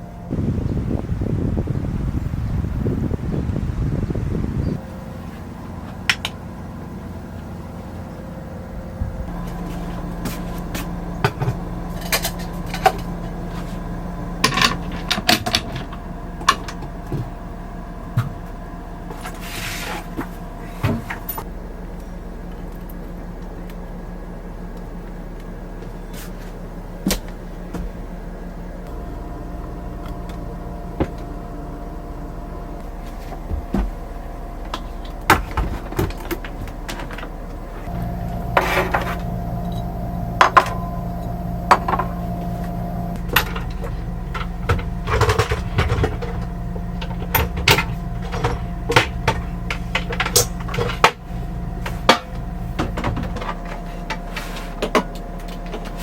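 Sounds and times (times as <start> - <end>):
loud appliance hum: 0.0 - 56.0
steady electrical hum: 0.0 - 56.0.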